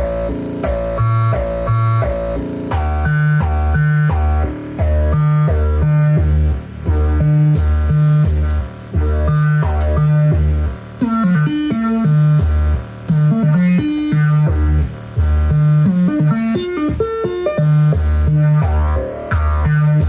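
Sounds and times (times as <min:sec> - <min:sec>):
synthesizer arpeggio: 0:00.0 - 0:20.0.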